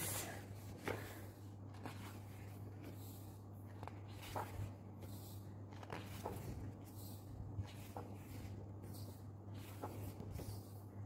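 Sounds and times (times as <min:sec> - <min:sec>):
faint steady hum: 0:00.0 - 0:11.0
paper pages turning: 0:00.5 - 0:10.9.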